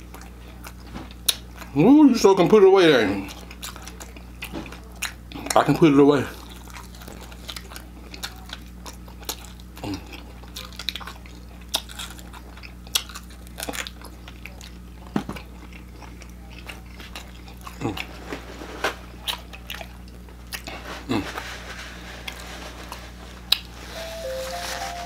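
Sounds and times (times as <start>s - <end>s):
person chewing crispy food: 0.0s - 1.9s, 2.9s - 25.0s.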